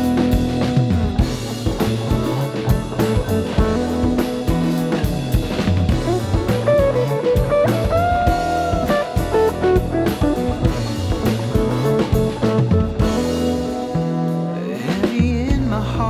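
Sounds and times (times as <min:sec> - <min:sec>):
guitar melody: 0:00.0 - 0:14.8
bass: 0:00.0 - 0:16.0
drum kit beat: 0:00.0 - 0:16.0.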